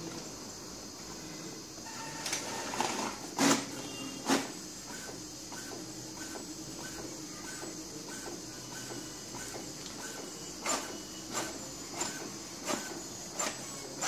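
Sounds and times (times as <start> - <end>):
inkjet printer whirring and ticking: 0.1 - 14.0
printer strokes: 1.7 - 14.0.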